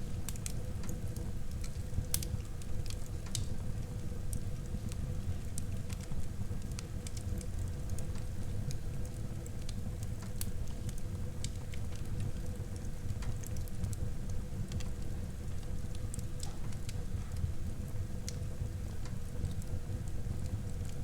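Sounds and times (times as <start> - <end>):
rumble of flames: 0.0 - 21.0
wood fire crackling and popping: 0.0 - 21.0.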